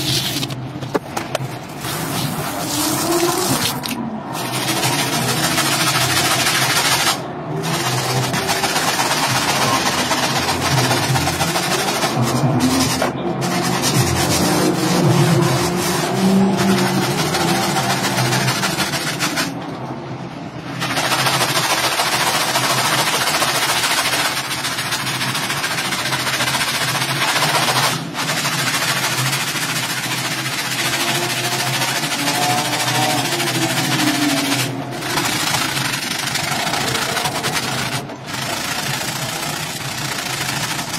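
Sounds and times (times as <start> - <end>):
brush scrubbing wet rug: 0.0 - 0.8, 1.4 - 19.6, 20.8 - 40.9.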